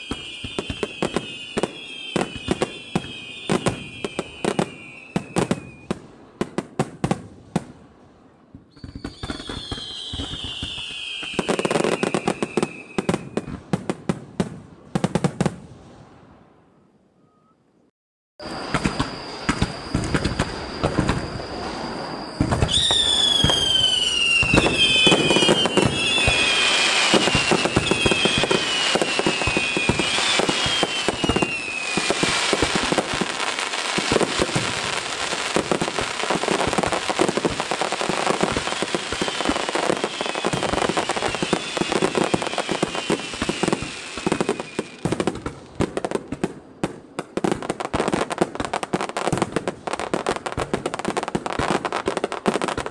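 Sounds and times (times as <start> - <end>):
falling firework whistles: 0.0 - 14.1, 18.4 - 52.9
fireworks bursting and crackling: 0.0 - 16.5, 18.4 - 52.9.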